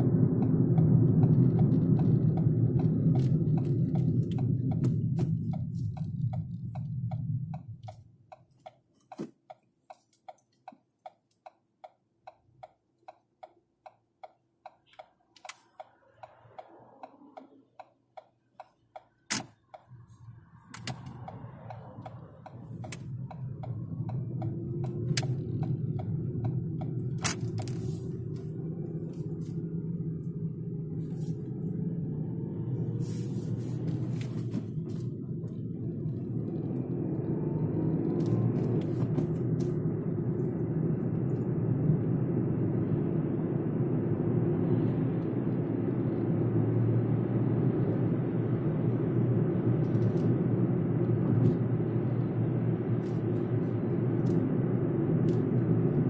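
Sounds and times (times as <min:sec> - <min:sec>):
turn signal ticking: 0:00.0 - 0:33.0, 0:33.6 - 0:56.0
car engine and road rumble: 0:00.0 - 0:56.0.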